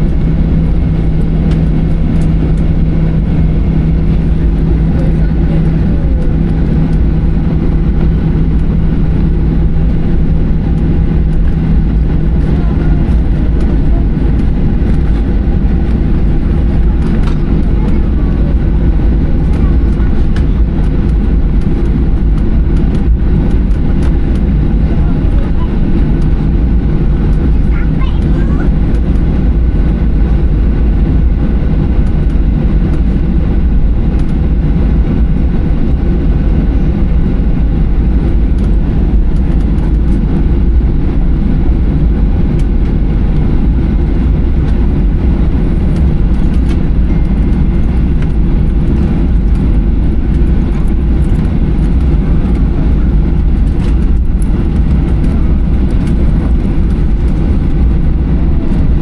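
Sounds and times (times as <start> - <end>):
airplane cabin low rumble: 0.0 - 59.0.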